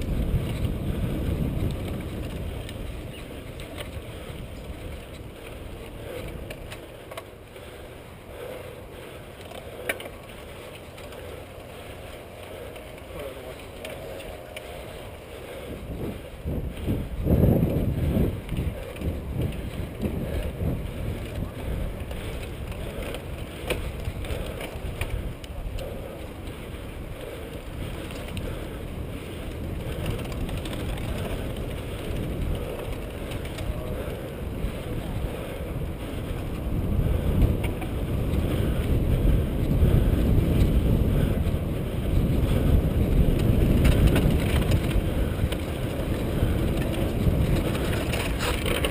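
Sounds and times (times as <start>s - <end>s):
bike rattling over rough ground: 0.0s - 48.9s
wind rumbling on microphone: 0.0s - 48.9s.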